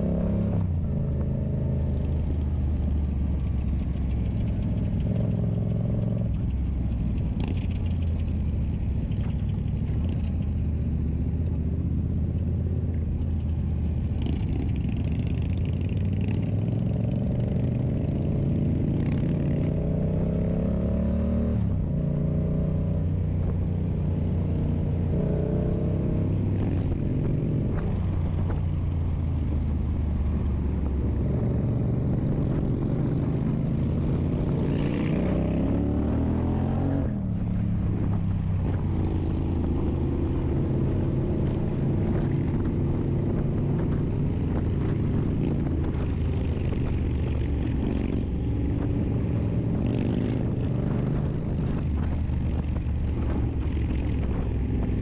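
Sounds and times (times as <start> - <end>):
motorcycle engine riding: 0.0 - 55.0.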